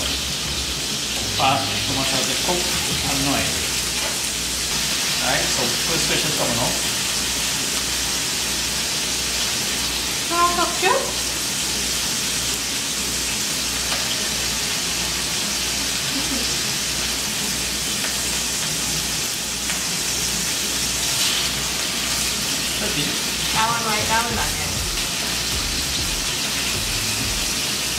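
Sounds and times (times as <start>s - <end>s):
fish sizzling in oil: 0.0s - 27.9s.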